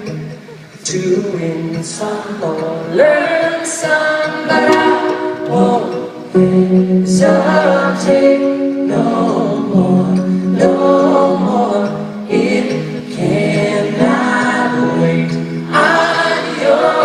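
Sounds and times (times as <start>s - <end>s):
live pop band playing: 0.0s - 17.0s
voices singing together: 0.8s - 17.0s.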